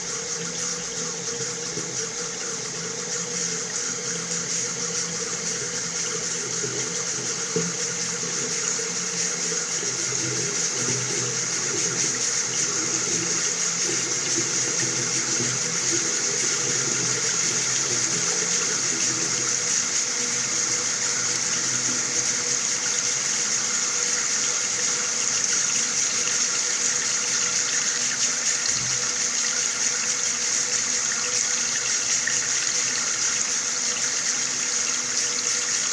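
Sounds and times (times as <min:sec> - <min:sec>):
water running from a tap: 0:00.0 - 0:35.9.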